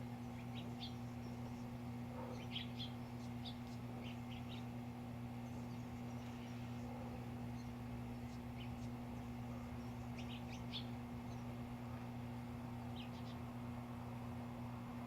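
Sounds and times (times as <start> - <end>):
small birds chirping: 0.0 - 13.9
steady low hum: 0.0 - 15.0.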